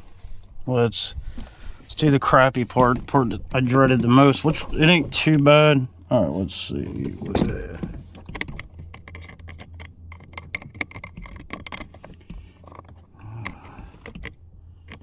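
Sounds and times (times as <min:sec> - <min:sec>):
faint low hum: 0:00.0 - 0:15.0
hard parts clicking and rattling: 0:01.3 - 0:15.0.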